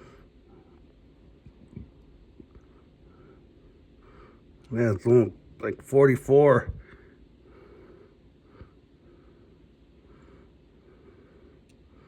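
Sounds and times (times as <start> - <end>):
soft regular breathing: 0.0 - 4.7, 6.7 - 12.0.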